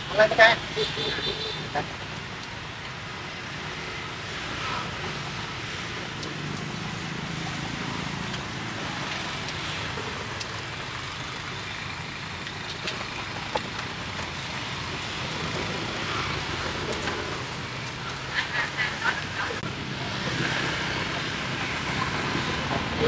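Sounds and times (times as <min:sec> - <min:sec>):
passing vehicles hum: 0:00.0 - 0:23.0.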